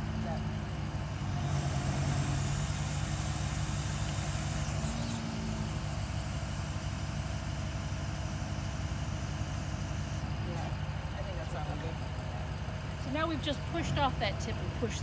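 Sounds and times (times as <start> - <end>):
rig engine and hydraulics humming: 0.0 - 15.0.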